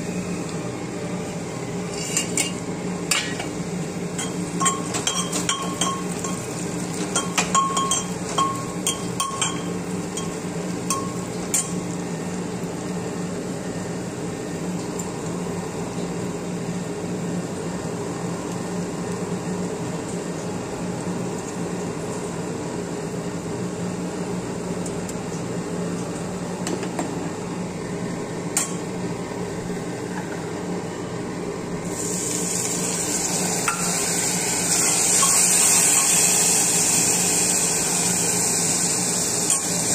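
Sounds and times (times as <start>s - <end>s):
onions frying in oil: 0.0s - 26.6s, 27.2s - 39.9s.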